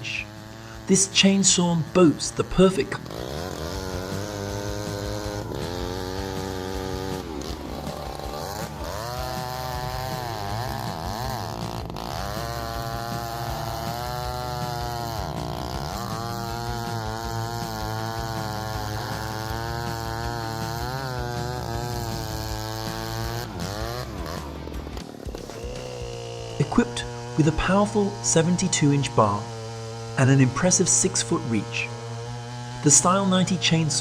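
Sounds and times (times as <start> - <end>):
chainsaw cutting a log: 0.0 - 34.0.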